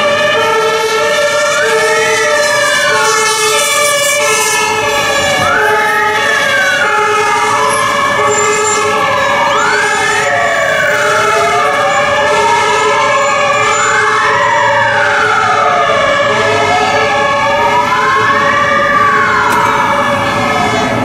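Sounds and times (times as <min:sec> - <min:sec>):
steady siren tones: 0:00.0 - 0:21.0
wailing fire engine siren: 0:00.0 - 0:21.0.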